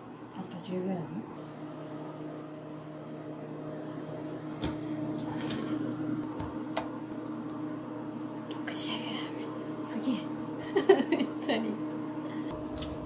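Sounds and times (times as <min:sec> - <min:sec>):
electrical appliance hum: 0:00.0 - 0:13.0.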